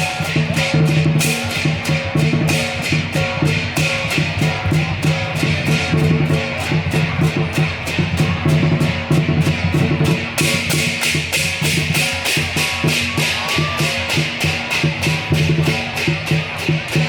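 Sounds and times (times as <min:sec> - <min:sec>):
cymbals clashing: 0:00.0 - 0:17.0
pounding drum: 0:00.0 - 0:17.0.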